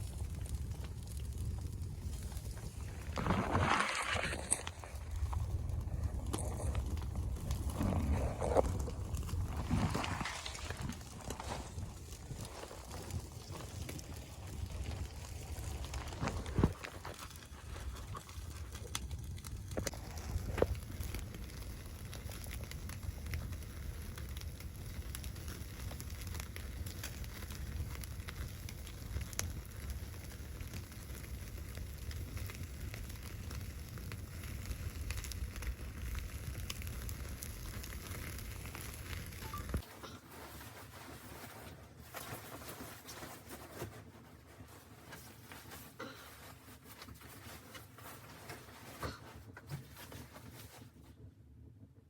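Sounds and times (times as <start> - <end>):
wood fire crackling and popping: 0.0 - 50.8
low rumble of fire: 0.0 - 52.0.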